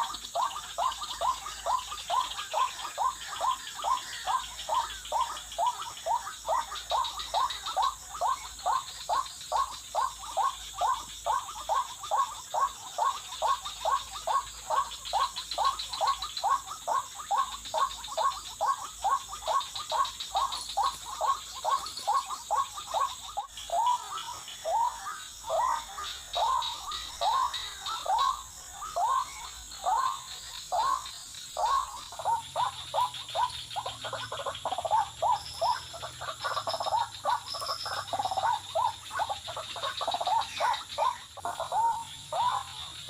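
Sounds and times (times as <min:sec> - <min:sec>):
waterhen calling: 0:00.0 - 0:43.0.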